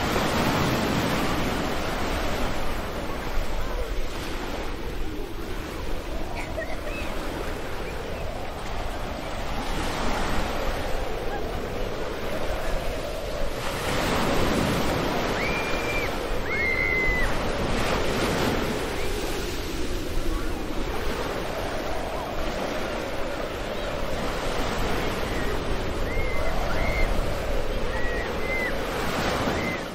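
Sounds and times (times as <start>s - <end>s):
surf breaking on a beach: 0.0s - 29.9s
wind: 0.0s - 29.9s.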